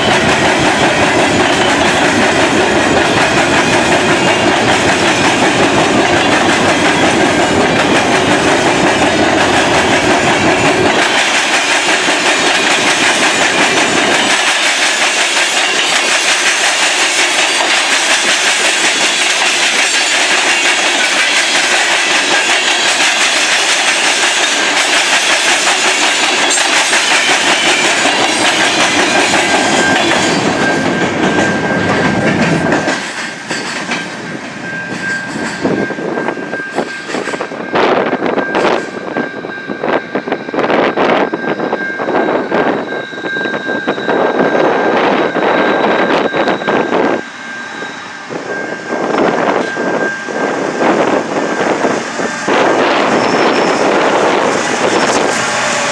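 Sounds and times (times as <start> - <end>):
deep train rumble: 0.0 - 55.9
train wheels clattering on rails: 0.0 - 55.9.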